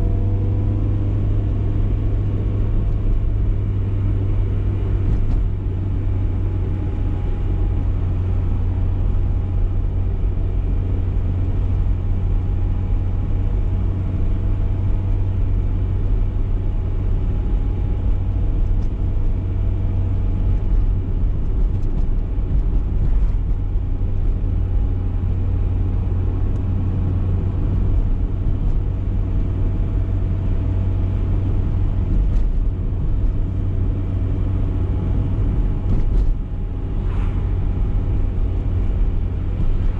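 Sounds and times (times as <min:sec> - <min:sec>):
car engine cruising drone: 0:00.0 - 0:39.9
road rumble: 0:00.0 - 0:39.9.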